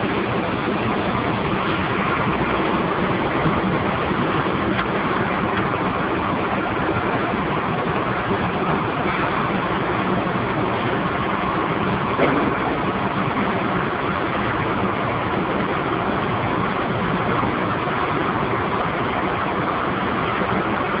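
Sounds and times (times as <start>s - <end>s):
steam boiler plant roaring: 0.0s - 21.0s.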